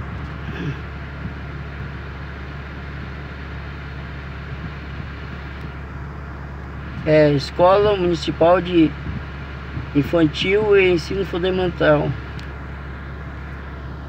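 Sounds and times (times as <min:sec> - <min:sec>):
car engine humming inside cabin: 0:00.0 - 0:14.0.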